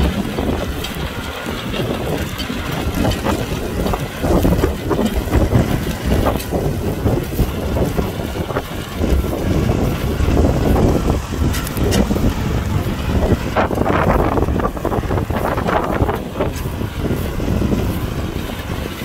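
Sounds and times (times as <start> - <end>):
tractor diesel engine running: 0.0 - 19.0
wind buffeting microphone: 0.0 - 19.0.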